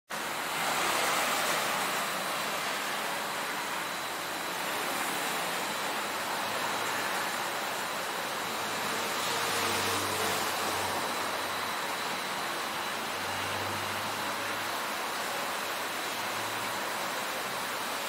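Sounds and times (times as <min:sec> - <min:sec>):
road traffic hiss: 0:00.1 - 0:18.0.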